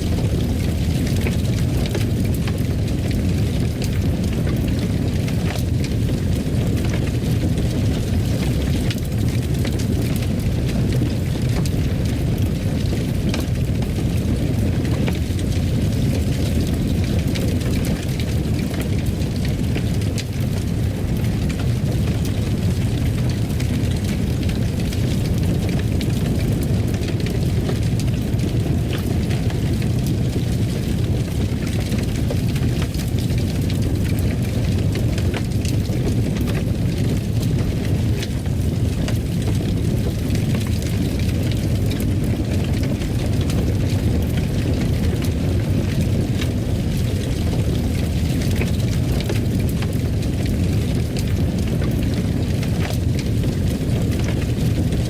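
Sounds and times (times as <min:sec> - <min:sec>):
fire burning in fireplace: 0:00.0 - 0:55.0.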